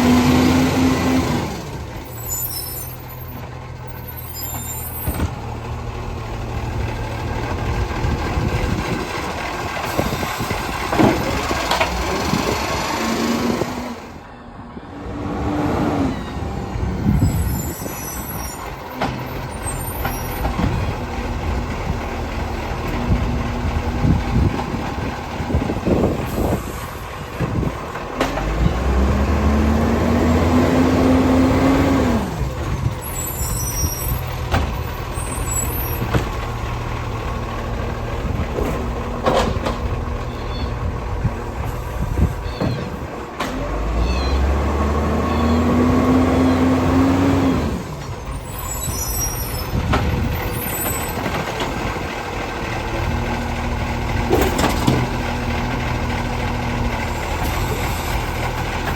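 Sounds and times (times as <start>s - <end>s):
diesel truck engine revving: 0.0s - 58.9s.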